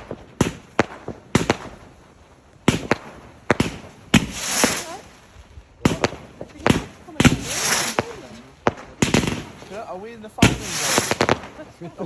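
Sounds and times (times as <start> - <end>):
fireworks bangs: 0.0 - 12.0
fireworks hiss: 0.0 - 12.0.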